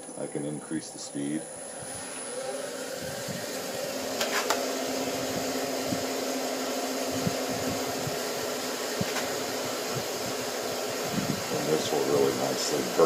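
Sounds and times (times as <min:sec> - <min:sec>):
lathe motor whining: 0:00.0 - 0:13.0
rag hissing on spinning wood: 0:01.2 - 0:13.0.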